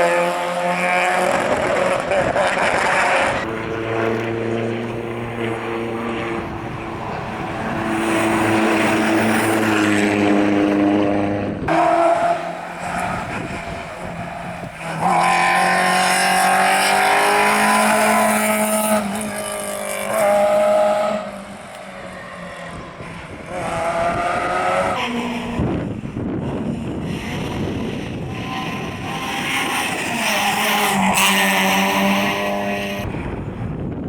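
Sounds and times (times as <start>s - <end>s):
rally car engines at full throttle: 0.0s - 34.0s.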